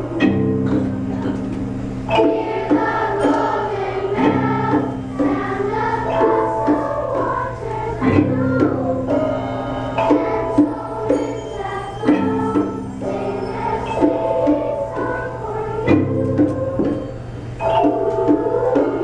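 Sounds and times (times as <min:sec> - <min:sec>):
children's choir singing: 0:00.0 - 0:19.0
held low instrumental notes: 0:00.0 - 0:19.0.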